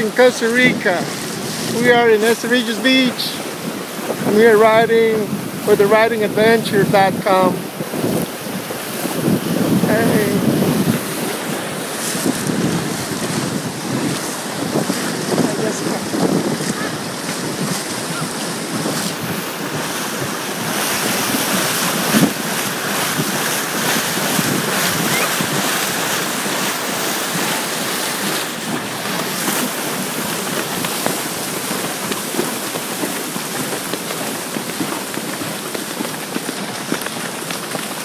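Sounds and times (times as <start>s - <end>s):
hooves splashing through water: 0.0s - 38.0s
ocean surf: 0.0s - 38.0s
wind buffeting microphone: 0.0s - 38.0s.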